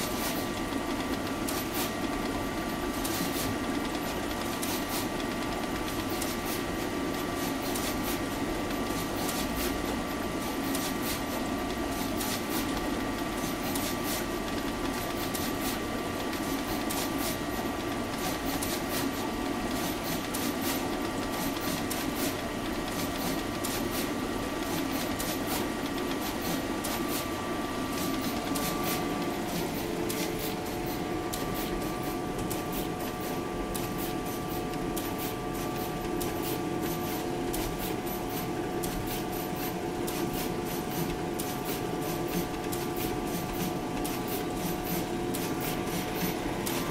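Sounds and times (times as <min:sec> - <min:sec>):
machine hum and whine: 0:00.0 - 0:46.9.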